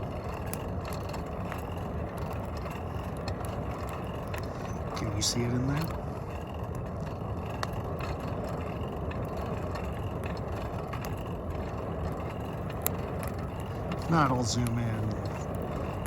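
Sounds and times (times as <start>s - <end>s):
forge fire rushing: 0.0s - 16.0s
wood fire crackles: 0.0s - 16.0s.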